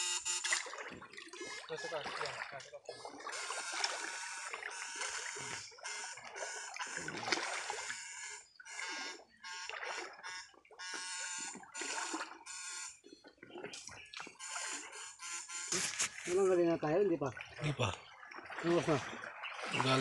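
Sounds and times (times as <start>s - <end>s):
electrofishing rig buzzing: 0.0s - 16.6s
water splashing: 0.3s - 20.0s.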